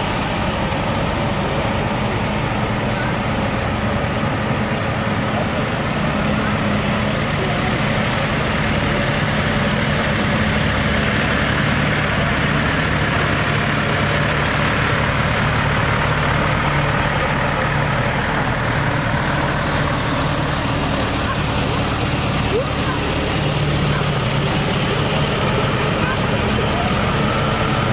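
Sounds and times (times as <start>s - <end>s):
diesel tractor engines running: 0.0s - 27.9s.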